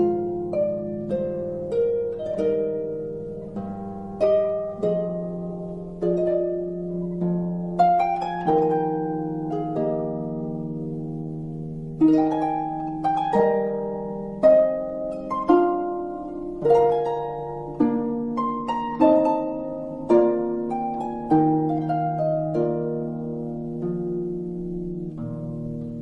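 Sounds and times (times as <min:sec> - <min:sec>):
harp plucked notes: 0:00.0 - 0:26.0.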